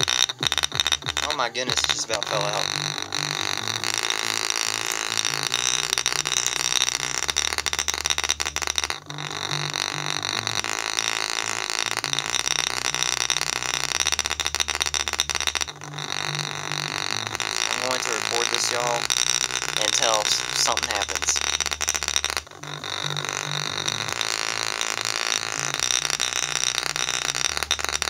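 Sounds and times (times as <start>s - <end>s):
deep sub-bass notes from speaker: 0.0s - 28.0s
golf ball rattling on speaker: 0.0s - 28.0s.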